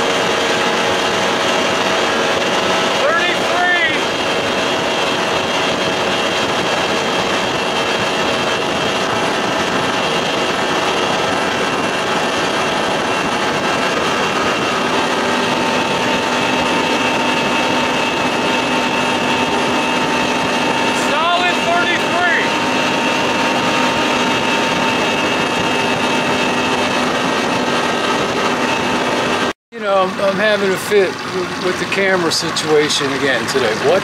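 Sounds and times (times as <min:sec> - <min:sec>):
outboard motor running at high speed: 0:00.0 - 0:34.0
water rushing off hull: 0:00.0 - 0:34.0.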